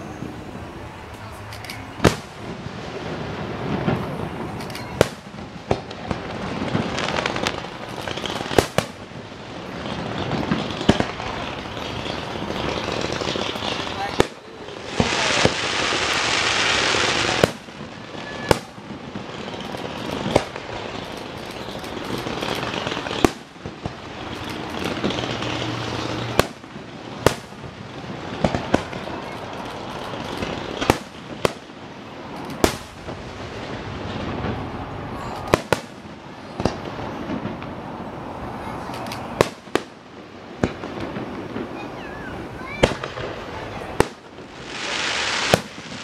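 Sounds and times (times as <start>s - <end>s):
fireworks crackling: 0.0s - 46.0s
hissing crackle: 0.0s - 46.0s
firework shells bursting with bangs: 1.0s - 46.0s.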